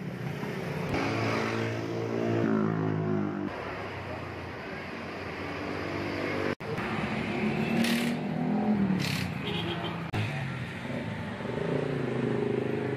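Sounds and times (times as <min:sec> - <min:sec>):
car engines: 0:00.0 - 0:12.9
road traffic passing: 0:00.0 - 0:12.9.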